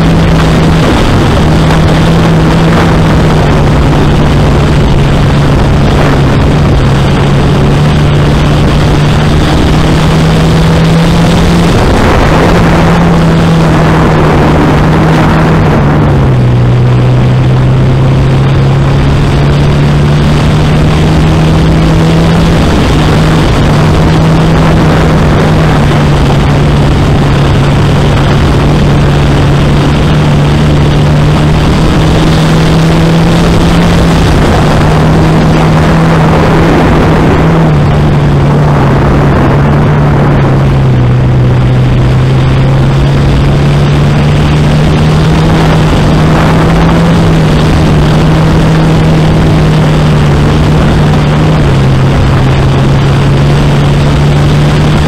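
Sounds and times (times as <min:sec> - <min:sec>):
dirt-track noise: 0:00.0 - 0:55.0
wind rushing: 0:00.0 - 0:55.0.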